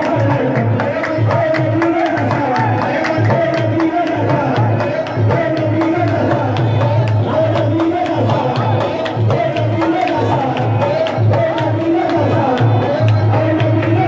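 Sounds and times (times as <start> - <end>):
hand claps: 0.0 - 14.0
hand-drum beat: 0.0 - 14.0.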